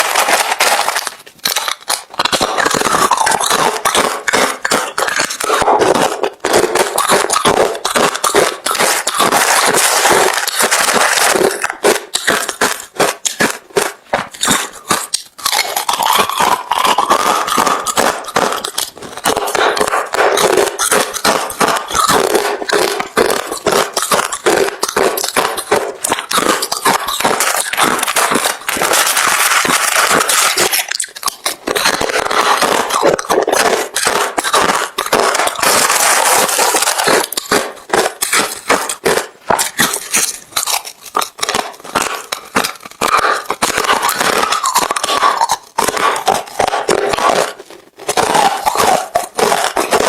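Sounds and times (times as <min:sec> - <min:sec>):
crushed ice being chewed: 0:00.0 - 0:50.0.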